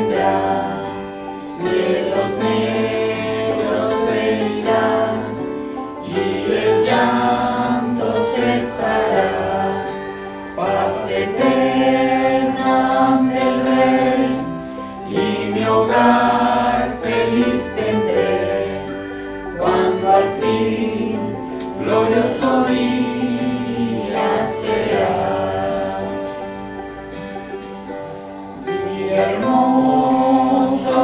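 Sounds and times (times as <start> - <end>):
group singing a hymn: 0.0 - 31.0.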